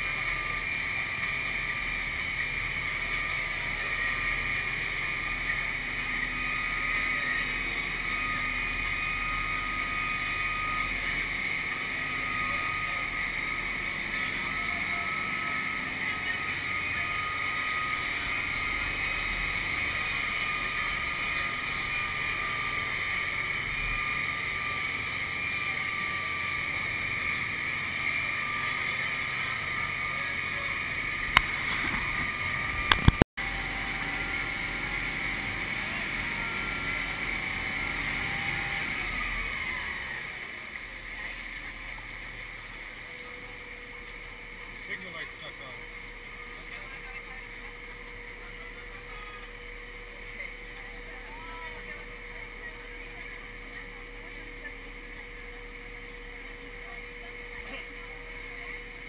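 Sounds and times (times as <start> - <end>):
engine with whine: 0.0 - 59.0.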